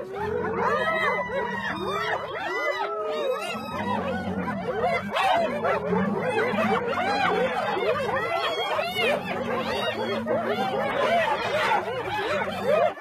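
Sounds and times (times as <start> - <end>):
hyenas yelping and whooping: 0.0 - 13.0.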